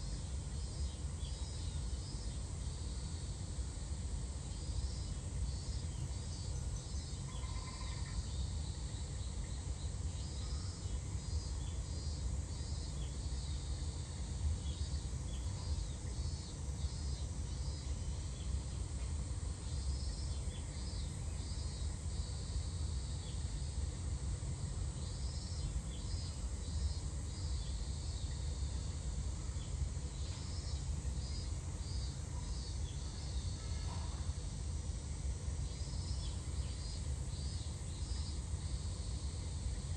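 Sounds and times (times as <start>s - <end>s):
cicadas chirring: 0.0s - 39.9s.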